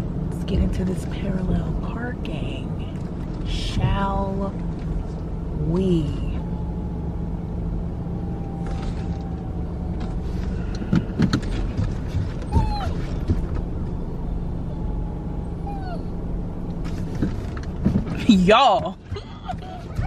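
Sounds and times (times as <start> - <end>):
car engine and road hum: 0.0 - 20.0.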